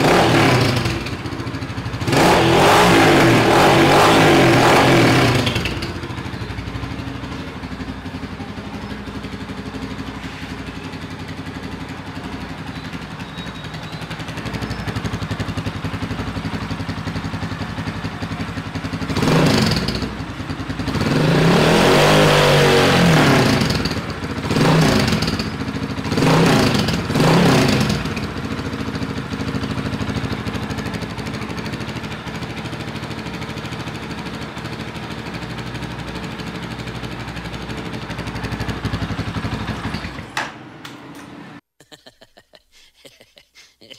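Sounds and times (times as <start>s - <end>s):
motorcycle engine idling: 0.0s - 21.4s, 23.5s - 40.5s
motorcycle engine revving: 0.0s - 40.6s.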